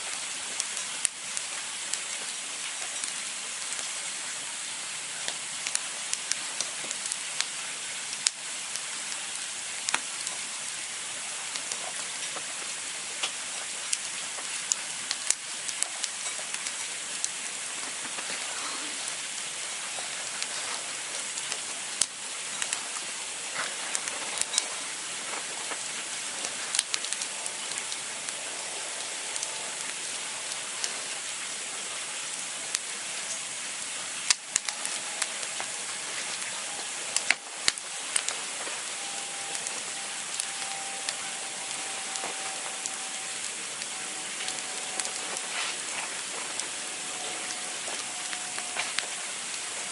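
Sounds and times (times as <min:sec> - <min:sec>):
campfire flames hissing: 0:00.0 - 0:49.9
fire crackles and pops: 0:00.0 - 0:49.9.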